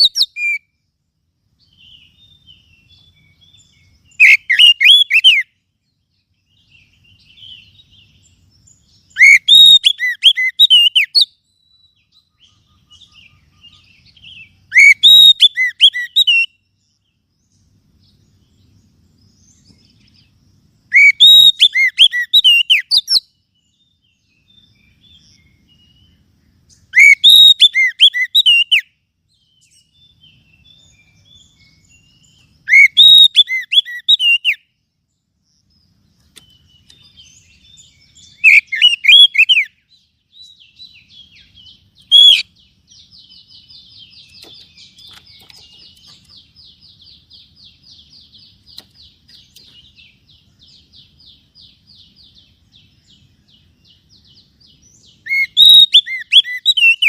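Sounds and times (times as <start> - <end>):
bird whistling song: 0.0 - 0.9, 1.6 - 34.8, 35.4 - 57.0
faint bird chirps: 0.0 - 57.0.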